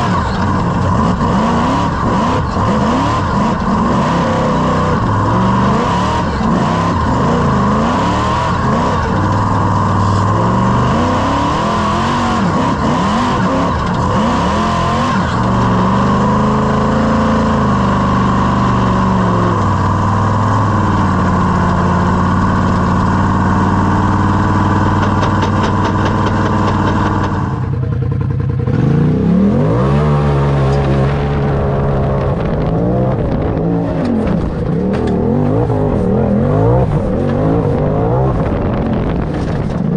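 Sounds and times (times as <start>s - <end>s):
engine revving: 0.0s - 39.9s.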